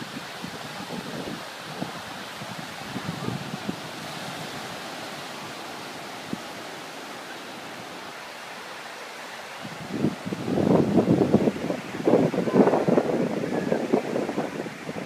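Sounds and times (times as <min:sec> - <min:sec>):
wind buffeting microphone: 0:00.0 - 0:08.2, 0:09.6 - 0:15.0
small waves breaking on beach: 0:00.0 - 0:15.0.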